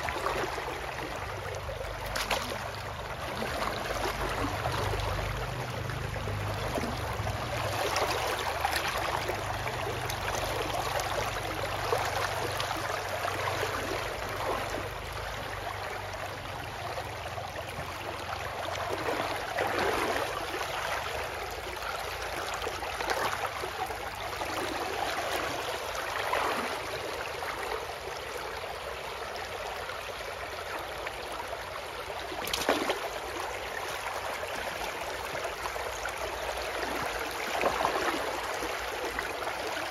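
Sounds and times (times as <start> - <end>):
river water sloshing and splashing: 0.0 - 39.9.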